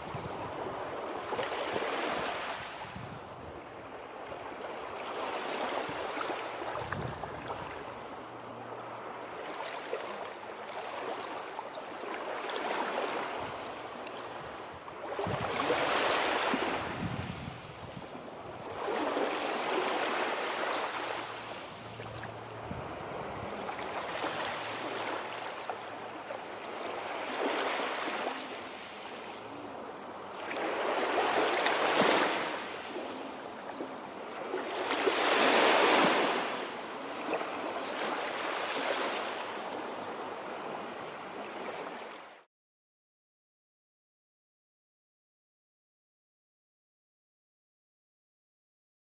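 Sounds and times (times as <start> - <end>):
sea waves breaking on shore: 0.0 - 42.5.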